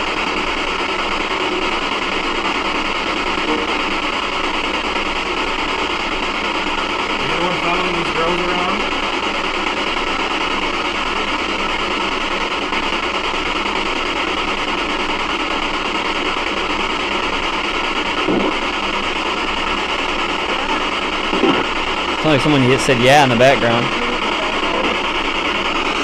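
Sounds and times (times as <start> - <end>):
radio-like static hiss: 0.0 - 26.0.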